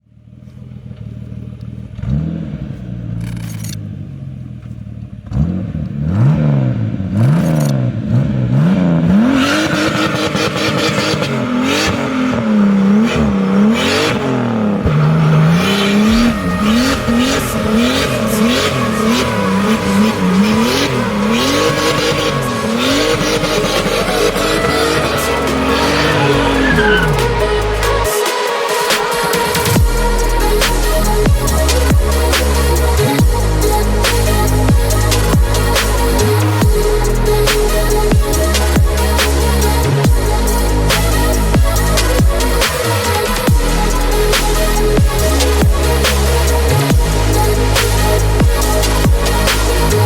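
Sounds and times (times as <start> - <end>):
car engine revving: 0.3 - 50.0.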